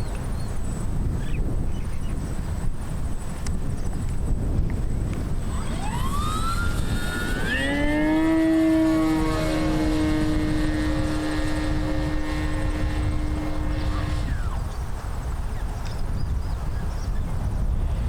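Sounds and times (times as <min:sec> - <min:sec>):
model plane motor whine: 0:00.0 - 0:16.1.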